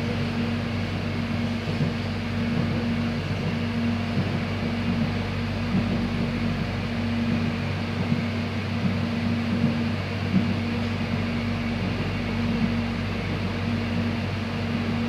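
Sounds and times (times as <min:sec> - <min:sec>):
electric train running hum: 0:00.0 - 0:15.0.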